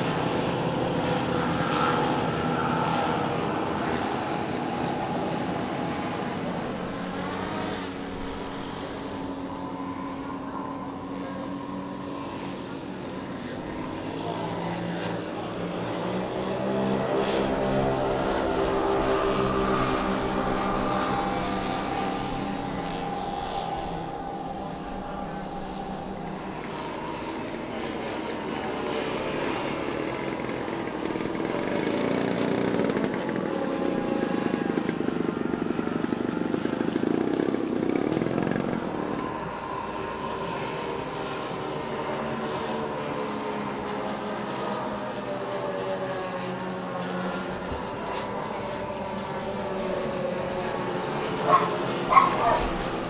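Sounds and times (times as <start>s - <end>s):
model plane propeller engines: 0.0s - 53.0s.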